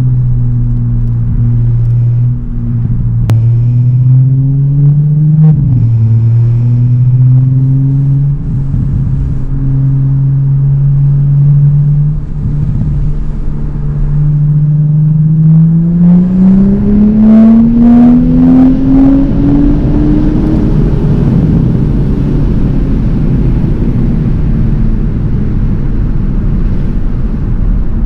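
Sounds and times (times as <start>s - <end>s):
car exhaust accelerating: 0.0s - 28.0s
exhaust crackles: 0.0s - 28.0s.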